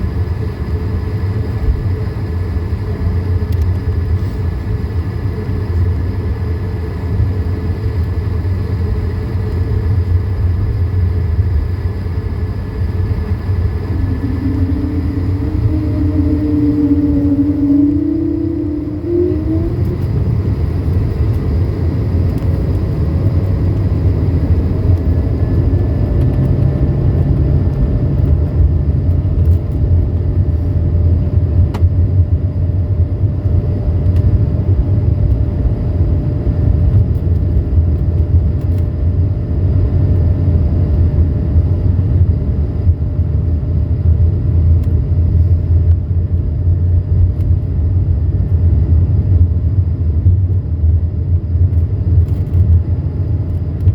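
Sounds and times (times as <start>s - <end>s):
faint steady whine: 0.0s - 53.9s
jet engines at takeoff thrust: 0.0s - 53.9s
wheels rumbling on runway: 0.0s - 53.9s.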